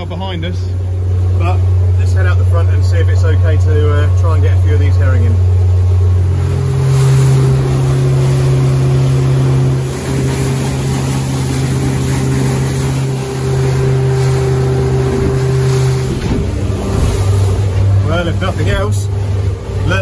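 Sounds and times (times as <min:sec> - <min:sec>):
outboard motor running: 0:00.0 - 0:20.0
water rushing past a hull: 0:00.0 - 0:20.0.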